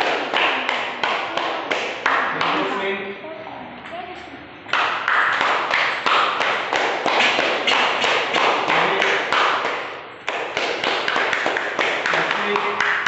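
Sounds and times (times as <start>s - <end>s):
people clapping: 0.0s - 2.8s, 4.7s - 13.0s.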